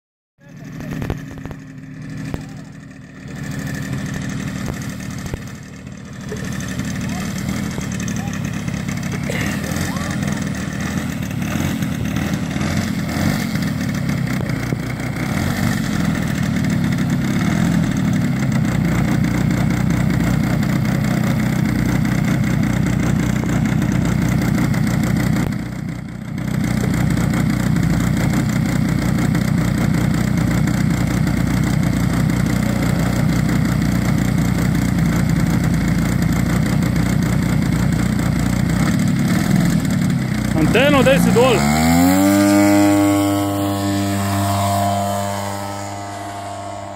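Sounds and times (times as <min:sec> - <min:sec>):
model aircraft engine idling: 0:00.4 - 0:46.9.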